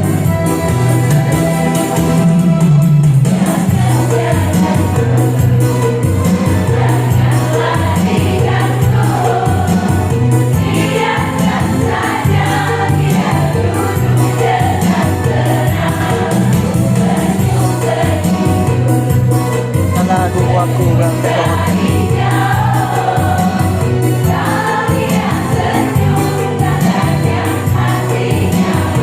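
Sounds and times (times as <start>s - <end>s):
instrumental accompaniment with bass: 0.0s - 29.0s
women's choir singing: 3.2s - 19.8s, 20.6s - 29.0s.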